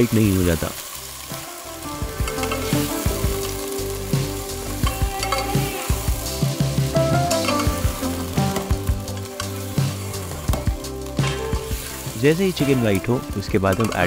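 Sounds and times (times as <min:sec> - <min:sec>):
chicken sizzling in hot fat: 0:00.0 - 0:14.0.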